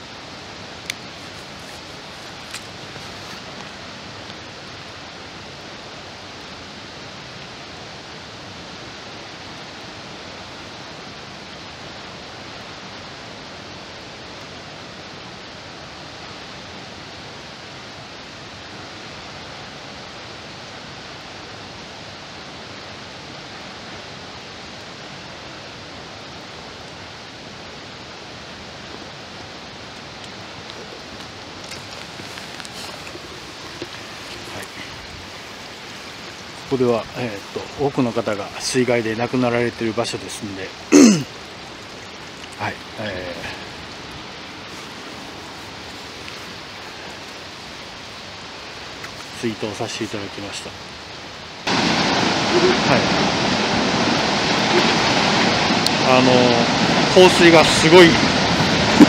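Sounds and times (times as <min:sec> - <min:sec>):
water rushing from dam gates: 0:00.0 - 0:59.0.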